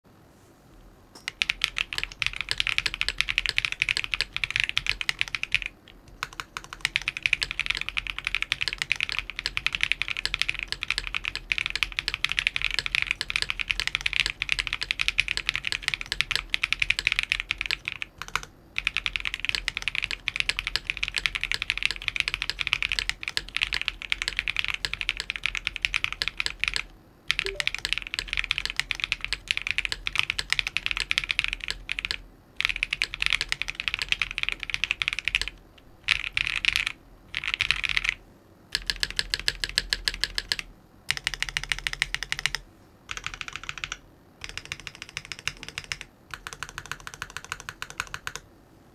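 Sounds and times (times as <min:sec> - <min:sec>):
fast mechanical keyboard typing: 0:01.2 - 0:48.5.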